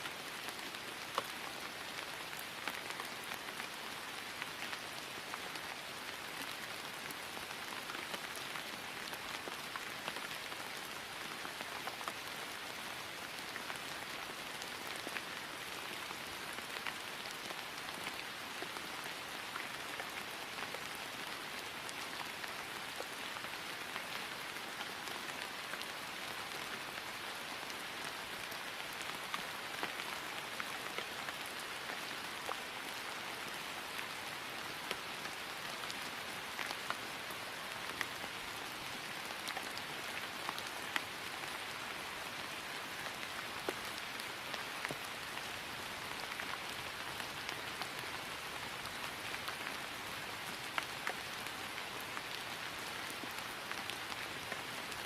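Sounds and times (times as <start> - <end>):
rain falling on grass: 0.0 - 55.0.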